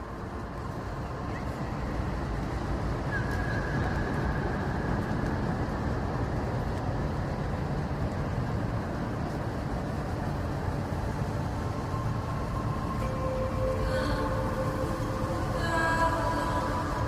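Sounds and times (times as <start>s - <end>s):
faint high whine: 0.0s - 17.0s
vehicle engine rumble: 0.0s - 17.0s.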